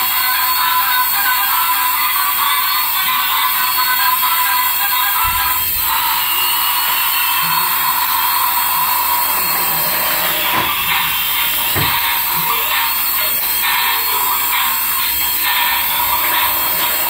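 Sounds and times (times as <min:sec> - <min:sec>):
toy motor whirring: 0:00.0 - 0:17.0.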